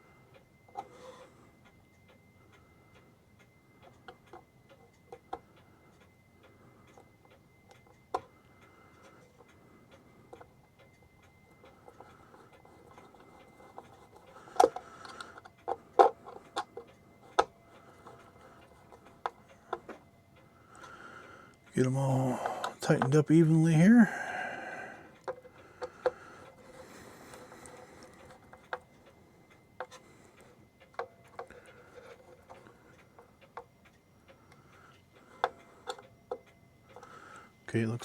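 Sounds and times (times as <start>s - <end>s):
clock ticking: 1.6s - 38.0s.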